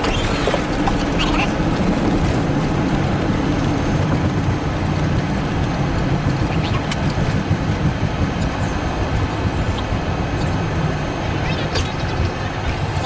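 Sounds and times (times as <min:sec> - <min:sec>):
vehicle rumble heard from inside: 0:00.0 - 0:13.0.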